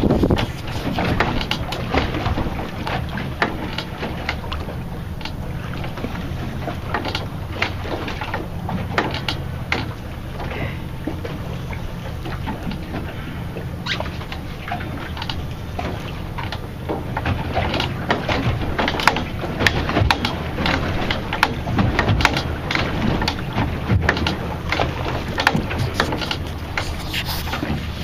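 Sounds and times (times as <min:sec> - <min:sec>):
boat engine idling: 0:00.0 - 0:28.0.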